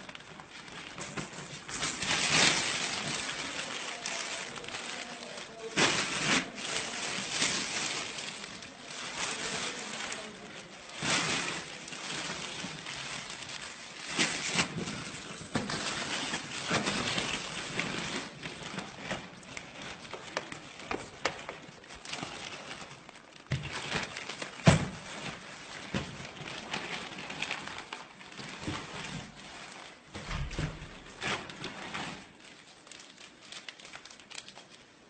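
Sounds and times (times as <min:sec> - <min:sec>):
plastic bags rustling: 0:00.0 - 0:35.0.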